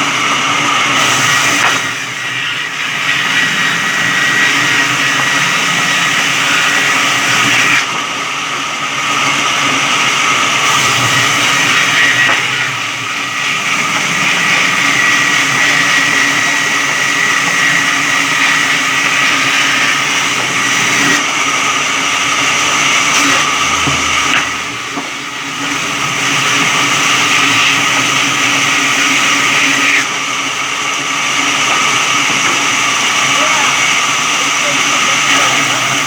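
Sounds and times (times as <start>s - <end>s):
electric saw cutting wood: 0.0s - 36.0s.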